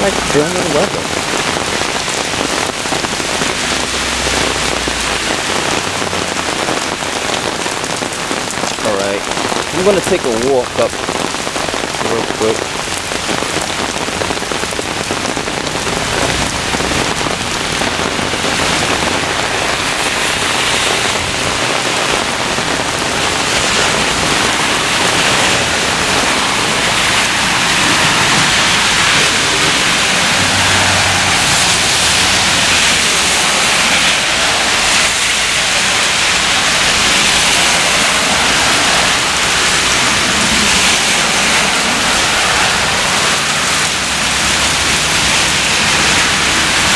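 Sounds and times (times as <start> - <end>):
heavy rain downpour: 0.0 - 46.9.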